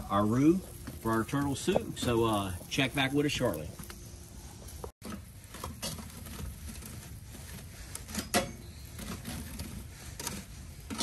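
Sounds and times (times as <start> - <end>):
fire poker scraping embers: 0.0 - 11.0.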